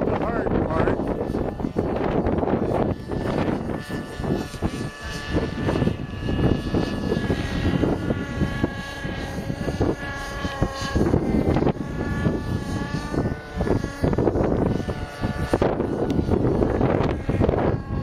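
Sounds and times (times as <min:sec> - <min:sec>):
model helicopter whine: 0:00.0 - 0:18.0
wind buffeting microphone: 0:00.0 - 0:18.0.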